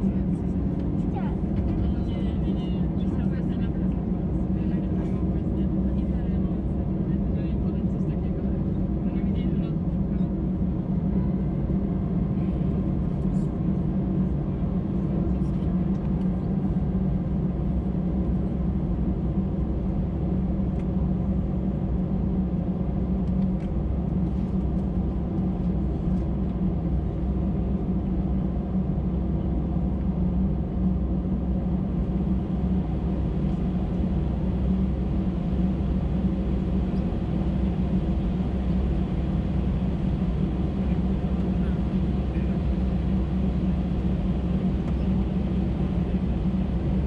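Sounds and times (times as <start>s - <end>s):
aircraft cabin rumble: 0.0s - 47.0s.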